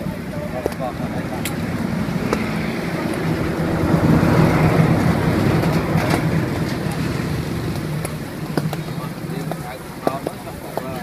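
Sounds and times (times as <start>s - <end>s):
motor vehicle passing: 0.0s - 11.0s
street noise: 0.0s - 11.0s.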